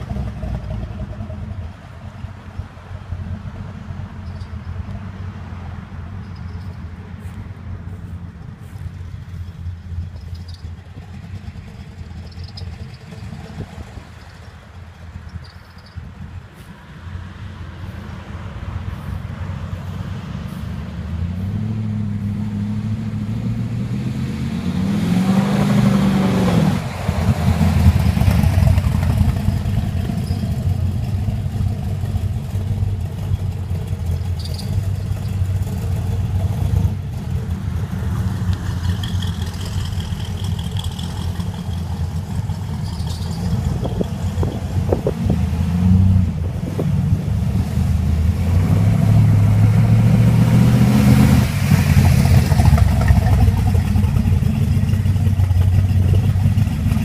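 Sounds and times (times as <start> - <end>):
car engine with deep exhaust revving: 0.0 - 57.0.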